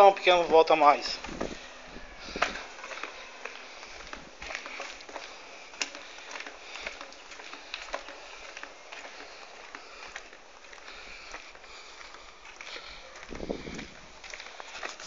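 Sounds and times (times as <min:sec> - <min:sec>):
footsteps on concrete: 0:00.0 - 0:15.0.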